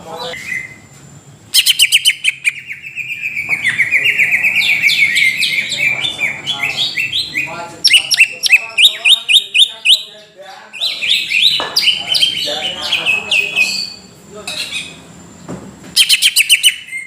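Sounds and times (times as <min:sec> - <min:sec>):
bird singing rapid chattering song: 0:00.0 - 0:15.0, 0:16.0 - 0:17.0.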